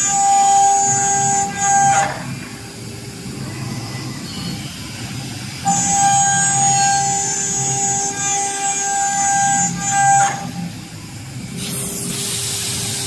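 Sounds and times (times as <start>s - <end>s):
machine hum and hiss: 0.0s - 13.0s.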